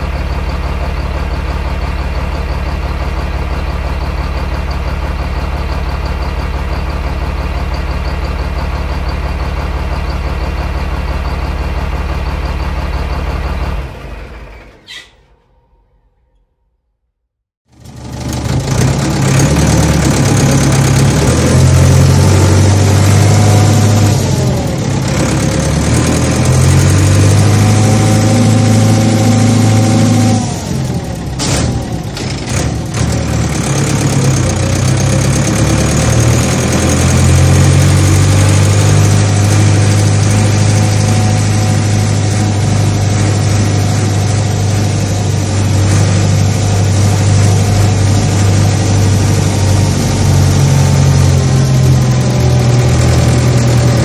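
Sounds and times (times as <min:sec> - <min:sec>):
farm machinery engine running: 0:00.0 - 0:15.0, 0:17.7 - 0:54.0.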